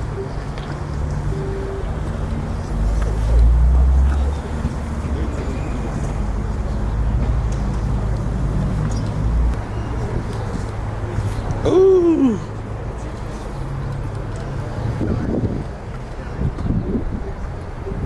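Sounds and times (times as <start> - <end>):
car engine idling: 0.0 - 15.1.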